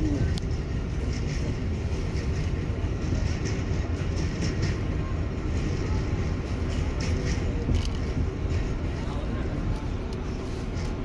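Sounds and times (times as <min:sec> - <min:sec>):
subway train rumbling: 0:00.0 - 0:11.0
wheels clicking over rails: 0:00.0 - 0:11.0.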